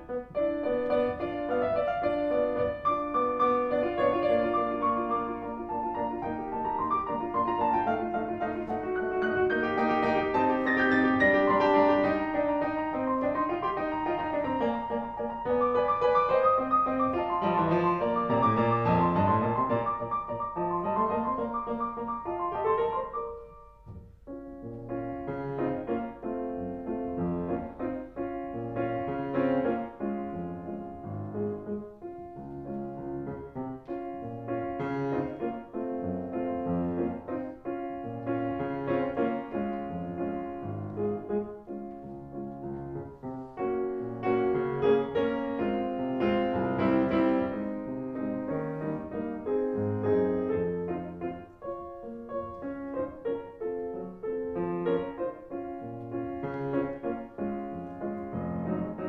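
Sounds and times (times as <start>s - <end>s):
instrumental piano music: 0.0s - 59.0s.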